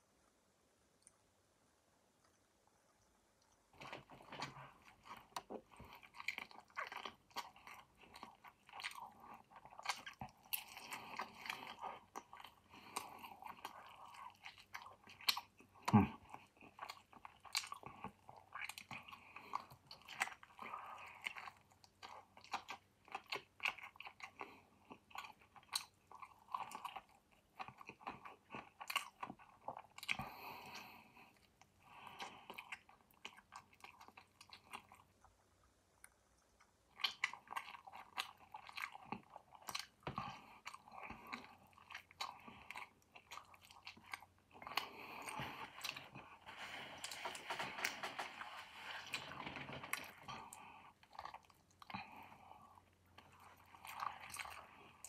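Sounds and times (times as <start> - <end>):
person chewing chicken: 3.8 - 55.0.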